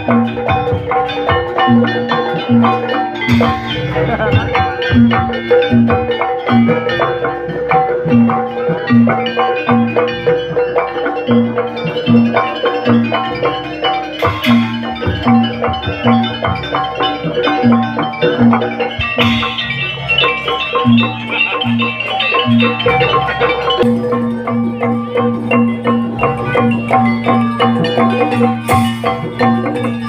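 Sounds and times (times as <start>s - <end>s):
regular drum rhythm: 0.0s - 30.0s
ringing bronze mallet tones: 0.0s - 30.0s.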